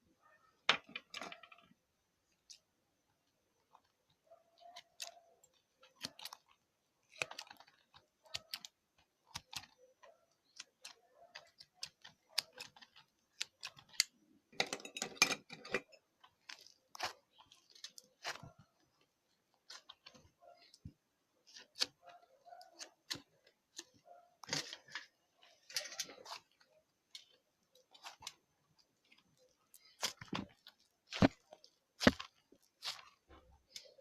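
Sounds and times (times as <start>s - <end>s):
hands squishing slime: 2.2s - 14.4s, 15.9s - 34.0s.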